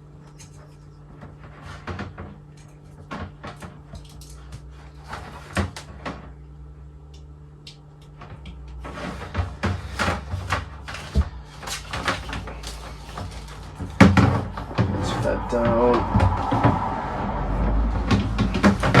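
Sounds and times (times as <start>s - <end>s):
plastic knocks and scrapes: 0.3s - 6.4s, 8.0s - 19.0s.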